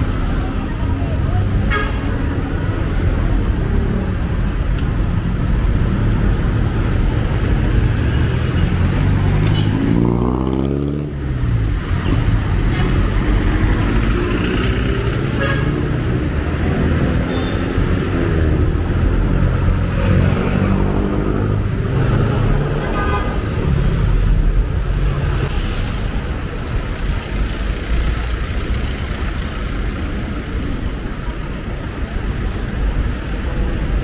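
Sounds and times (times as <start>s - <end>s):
vehicle engines passing: 0.0s - 34.0s.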